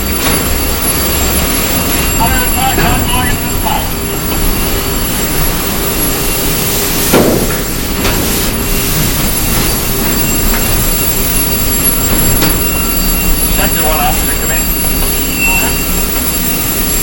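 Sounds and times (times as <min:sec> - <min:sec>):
fire hose rushing: 0:00.0 - 0:17.0.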